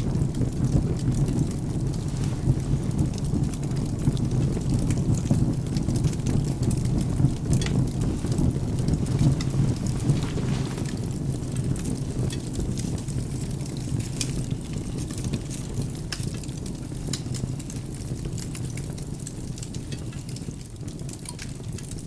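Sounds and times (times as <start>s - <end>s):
rain: 0.0s - 22.0s
wood fire crackling and popping: 0.0s - 22.0s.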